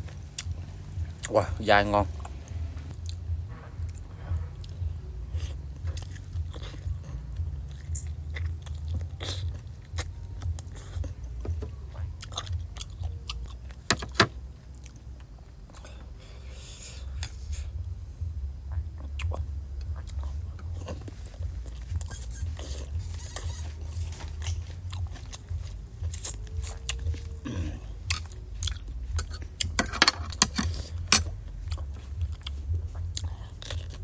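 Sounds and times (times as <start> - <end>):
chewing and biting: 0.0 - 17.9, 18.6 - 34.0.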